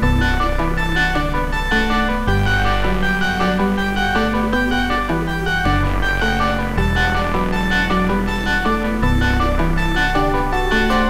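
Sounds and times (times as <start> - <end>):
plucked string music: 0.0 - 11.0
steady bass line: 0.0 - 11.0.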